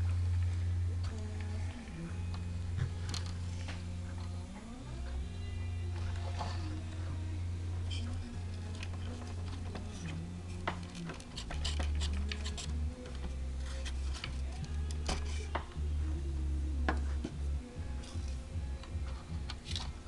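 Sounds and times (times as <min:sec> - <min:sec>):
background music with bass line: 0:00.0 - 0:20.0.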